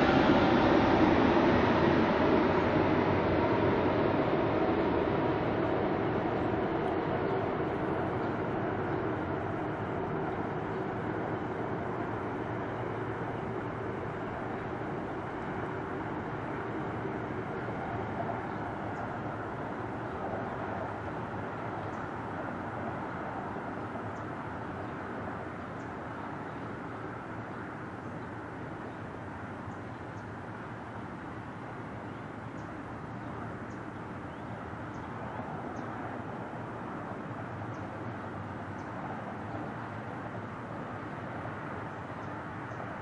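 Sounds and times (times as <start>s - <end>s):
distant jet engine rumble: 0.0s - 43.0s.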